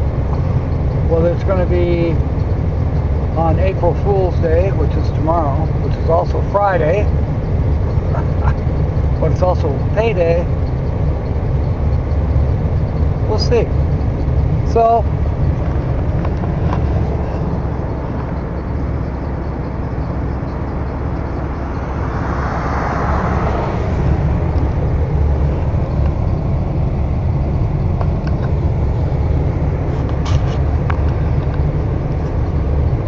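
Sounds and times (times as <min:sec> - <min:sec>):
car engine and tyre rumble: 0:00.0 - 0:33.0
rushing road noise: 0:00.0 - 0:33.0.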